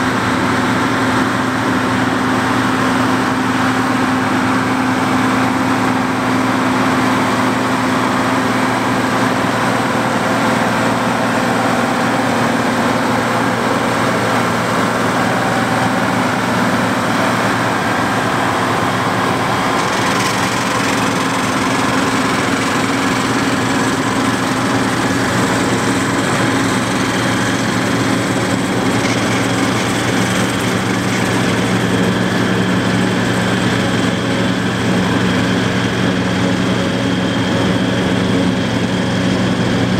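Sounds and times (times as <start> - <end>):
tractor diesel engine under load: 0.0 - 39.9
forage harvester machine noise: 0.1 - 39.9.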